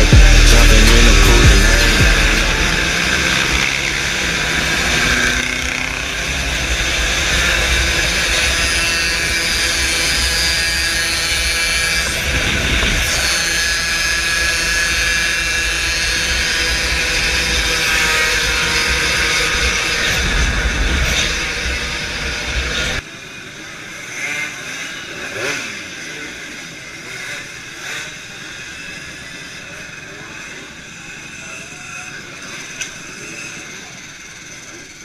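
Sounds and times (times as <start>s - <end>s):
two-stroke moped engine buzzing: 0.0s - 35.0s.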